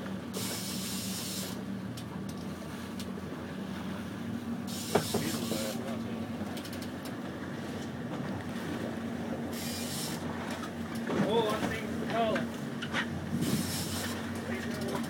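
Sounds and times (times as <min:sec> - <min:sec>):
boat engine at low revs: 0:00.0 - 0:15.0
water noise: 0:00.0 - 0:15.0
wind: 0:00.0 - 0:15.0.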